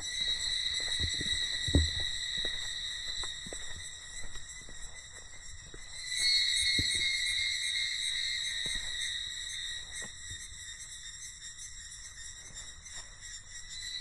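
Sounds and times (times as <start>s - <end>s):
forest insects buzzing: 0.0s - 14.0s.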